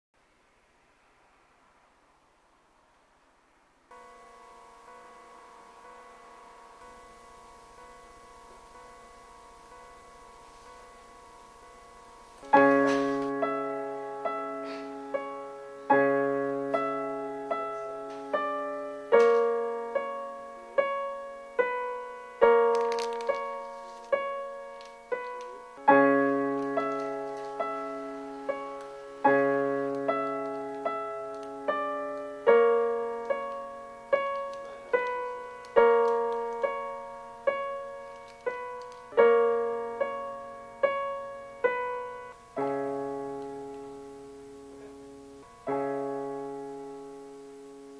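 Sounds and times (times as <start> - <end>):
slow piano music: 3.9 - 47.9.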